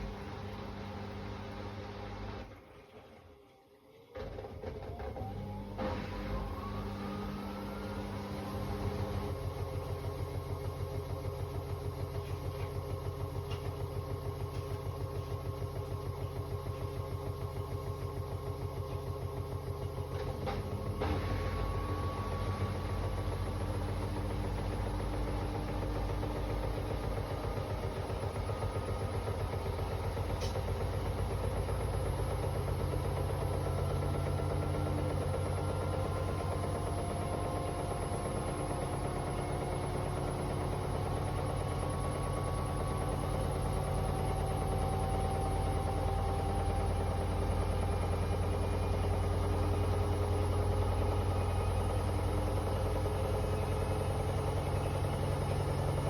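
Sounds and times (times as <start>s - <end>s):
washing machine spinning: 4.4s - 56.0s.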